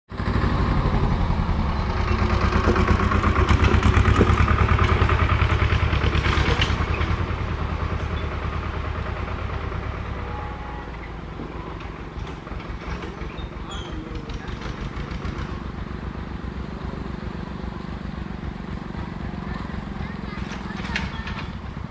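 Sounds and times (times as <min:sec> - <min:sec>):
diesel locomotive engine rumbling: 0:00.1 - 0:21.9.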